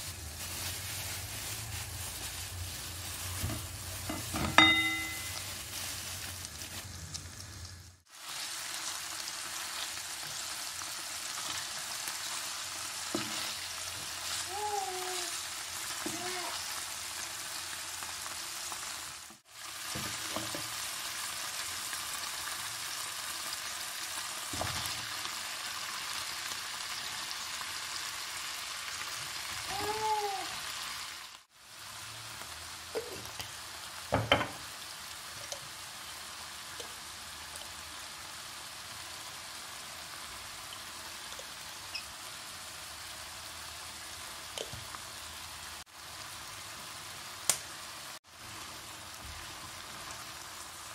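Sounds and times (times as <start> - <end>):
chicken sizzling in oil: 0.0 - 50.9.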